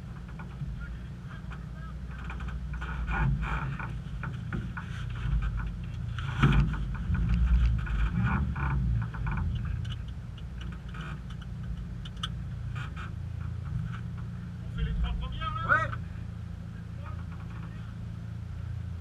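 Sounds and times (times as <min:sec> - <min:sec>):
light clicks and rattles: 0:00.0 - 0:16.1, 0:17.0 - 0:18.1
car engine idling: 0:00.0 - 0:19.0.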